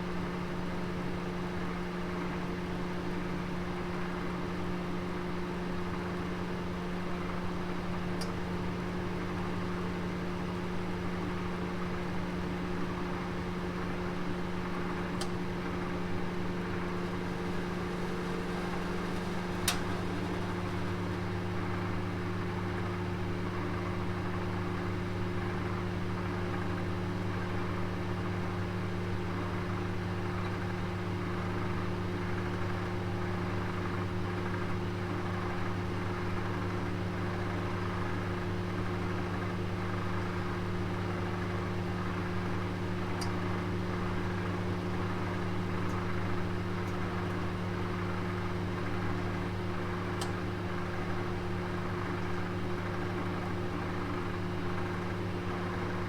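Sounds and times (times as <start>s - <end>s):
oven humming: 2.4s - 56.0s.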